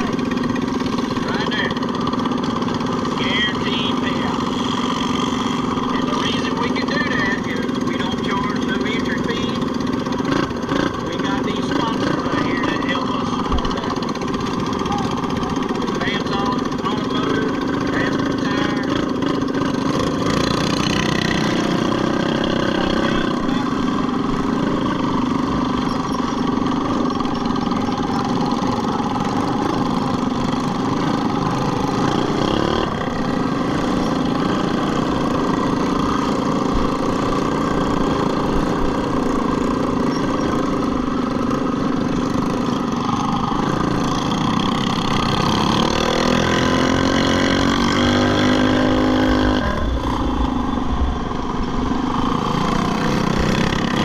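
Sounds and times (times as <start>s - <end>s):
engine revving: 0.0s - 54.0s
minibike engines racing: 0.0s - 54.0s.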